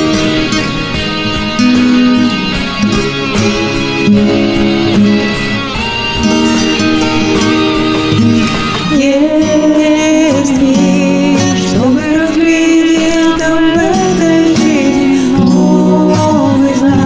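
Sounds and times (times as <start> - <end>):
guitar instrumental music: 0.0 - 17.0.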